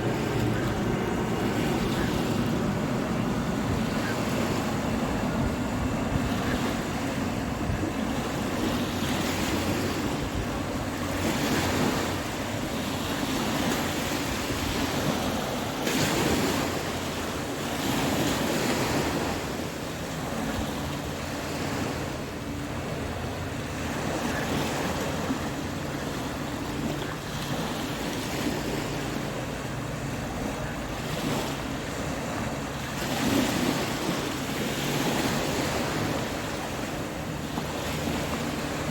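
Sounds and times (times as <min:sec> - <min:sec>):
ocean surf breaking: 0:00.0 - 0:38.9
wind buffeting microphone: 0:00.0 - 0:38.9.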